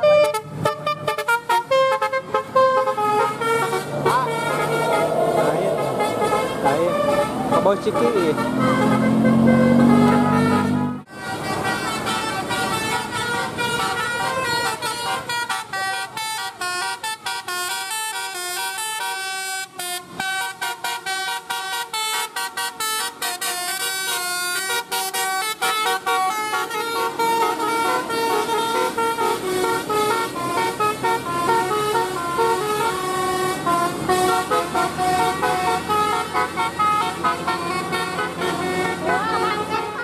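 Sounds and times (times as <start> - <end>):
another bus horn: 0.0 - 40.0
multi-tone bus horn melody: 0.0 - 40.0.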